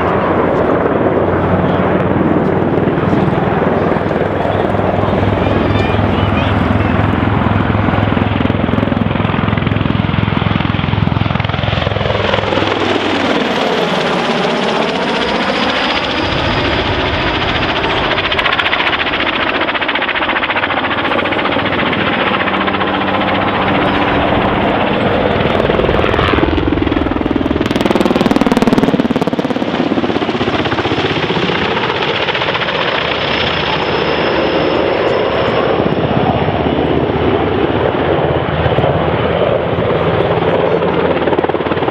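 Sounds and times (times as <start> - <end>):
helicopter rotor and turbine noise: 0.0 - 41.9.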